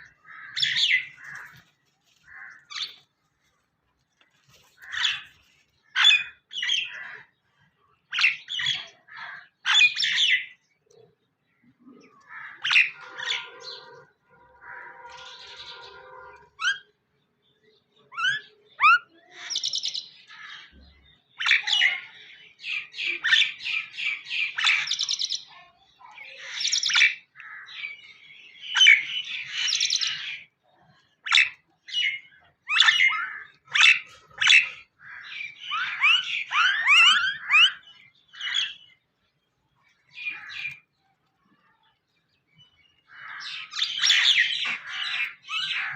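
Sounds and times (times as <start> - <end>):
birds chirping and trilling: 0.0 - 45.9.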